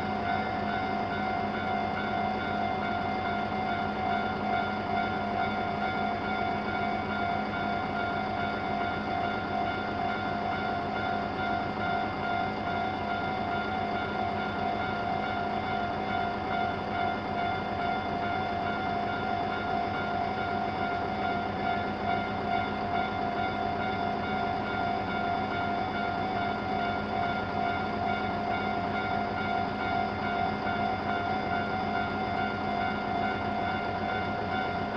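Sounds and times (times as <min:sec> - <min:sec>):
second faster crossing bell: 0:00.0 - 0:34.9.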